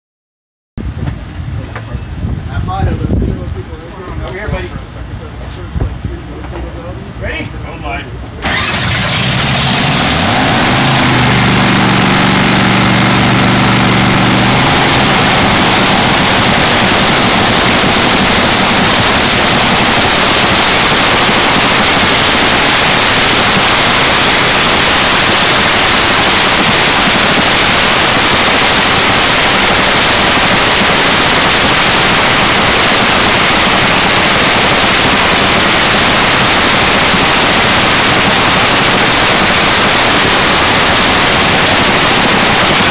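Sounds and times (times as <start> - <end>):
dragster engine idling: 8.3 - 42.9.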